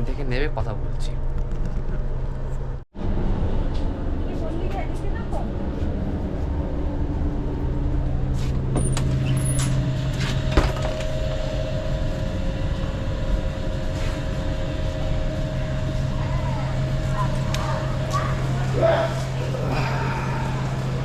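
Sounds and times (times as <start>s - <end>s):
stationary train humming: 0.0s - 21.0s
thin steady whine: 0.1s - 21.0s.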